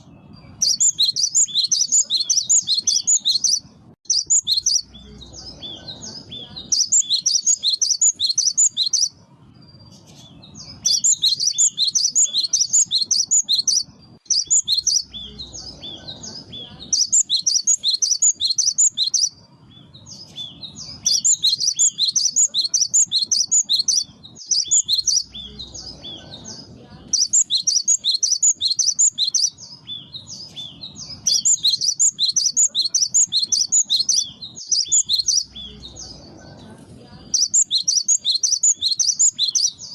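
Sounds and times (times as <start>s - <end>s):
bird singing rapid high notes: 0.0s - 36.3s, 37.2s - 39.9s.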